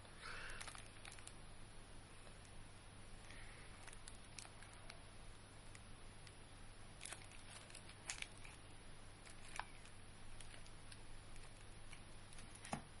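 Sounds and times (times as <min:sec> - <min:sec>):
faint hiss and low hum: 0:00.0 - 0:13.0.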